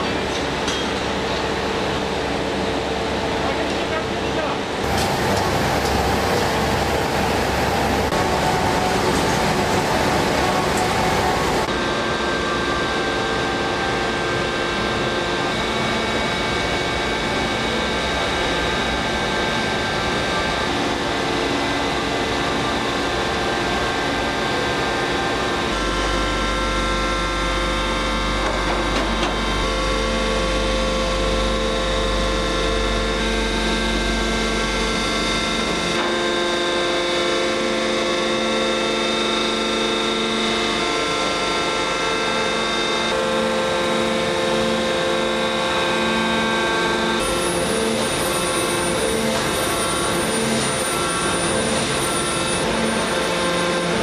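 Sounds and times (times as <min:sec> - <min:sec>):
forging machinery humming: 0:00.0 - 0:54.0.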